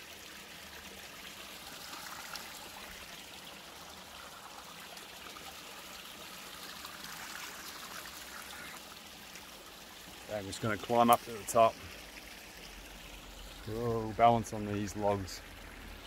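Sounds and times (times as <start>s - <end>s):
creek trickling: 0.0s - 16.0s.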